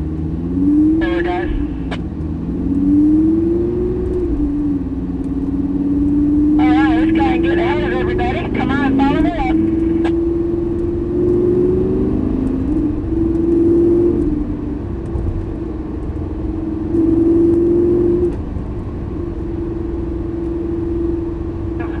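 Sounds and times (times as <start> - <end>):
car engine cruising from cabin: 0.0 - 22.0.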